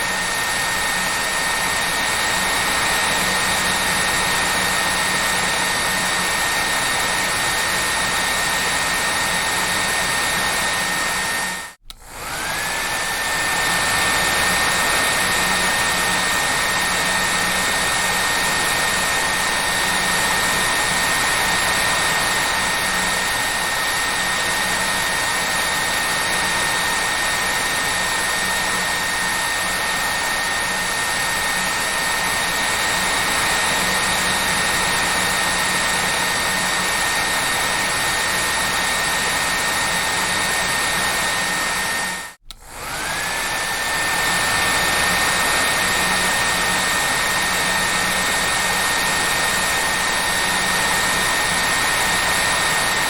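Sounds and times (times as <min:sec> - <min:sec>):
hair dryer running: 0:00.0 - 0:53.0.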